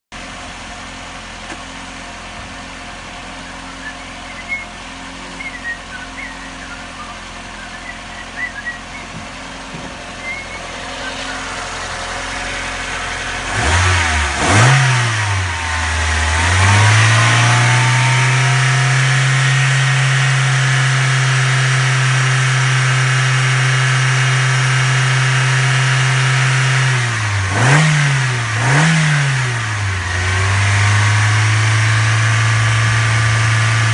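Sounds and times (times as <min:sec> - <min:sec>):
petrol engine revving: 0:03.5 - 0:33.9.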